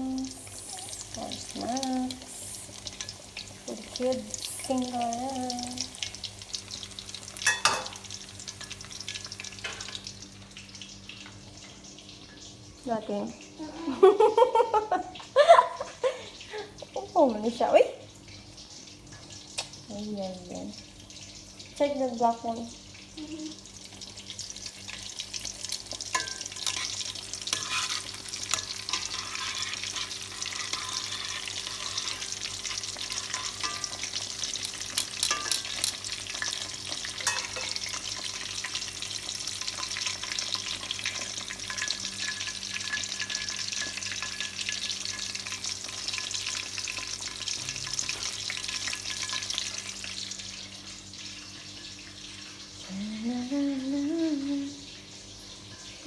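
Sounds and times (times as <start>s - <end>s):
faint steady hum: 0.0s - 56.0s
food sizzling in hot fat: 0.0s - 56.0s.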